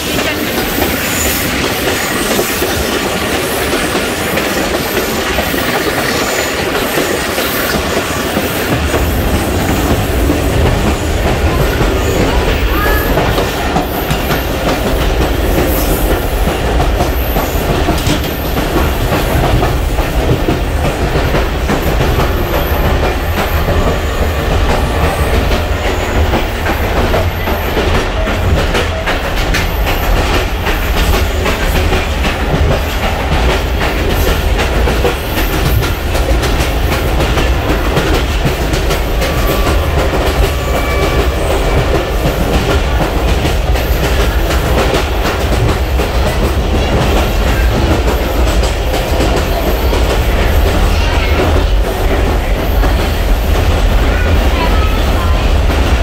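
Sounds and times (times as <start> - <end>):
train carriages rumbling and rattling: 0.0 - 56.0
wheels clicking over rail joints: 0.0 - 56.0.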